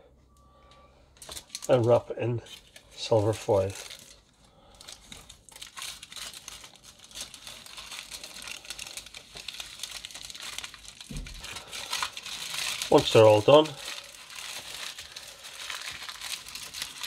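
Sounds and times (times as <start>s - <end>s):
foil crinkling: 1.2s - 17.0s.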